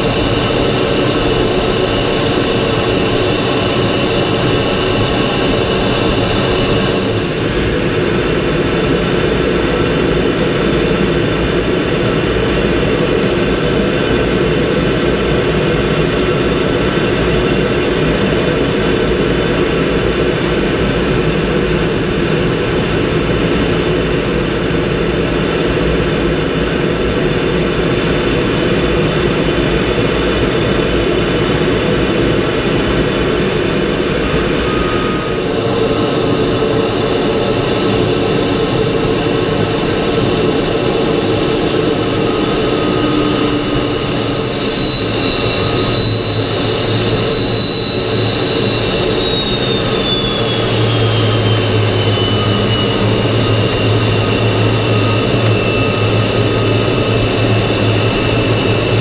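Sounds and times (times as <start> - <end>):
high engine whine: 0.0 - 59.0
jet engine and airflow roar: 0.0 - 59.0.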